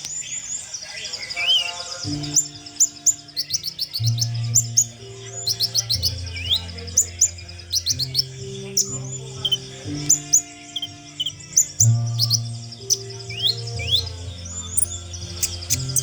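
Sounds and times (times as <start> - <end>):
background music low notes: 0.0 - 16.0
songbird chirping and trilling: 0.0 - 16.0.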